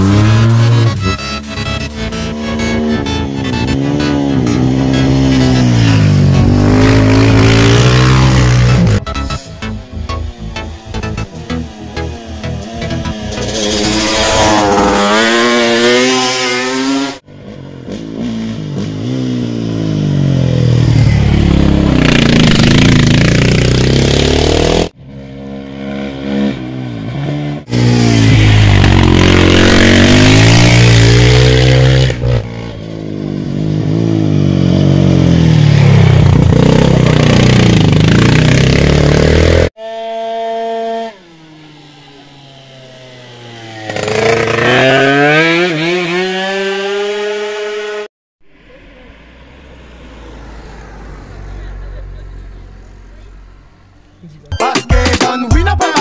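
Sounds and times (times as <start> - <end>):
quad bike engines revving: 0.0 - 9.0, 11.6 - 48.1.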